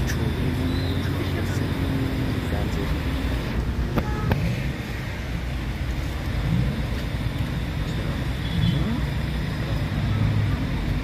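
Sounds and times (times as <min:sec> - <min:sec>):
low rumble of cars: 0:00.0 - 0:11.0.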